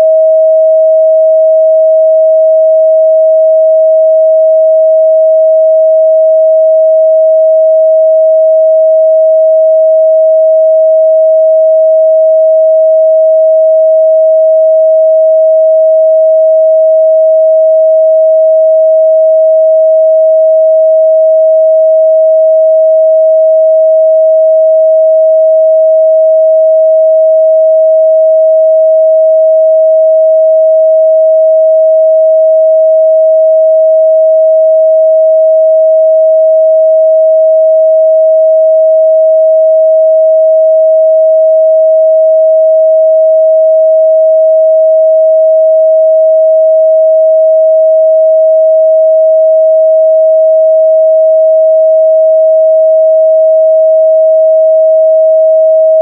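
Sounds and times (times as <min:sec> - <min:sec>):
sine wave test tone: 0:00.0 - 0:56.0.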